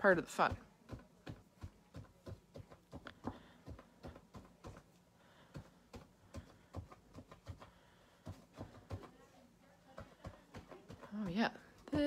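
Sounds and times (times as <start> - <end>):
fingertips tapping on canvas: 0.4 - 12.0.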